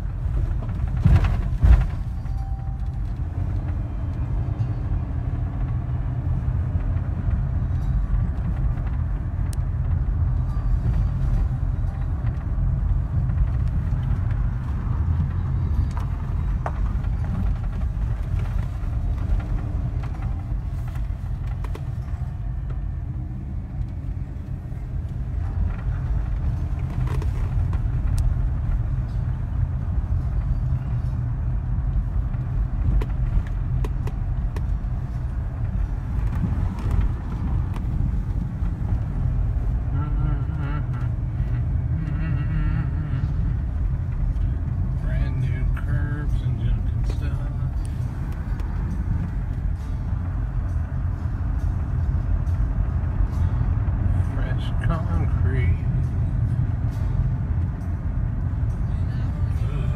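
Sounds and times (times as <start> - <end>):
tyre and engine rumble in car: 0.0 - 59.9.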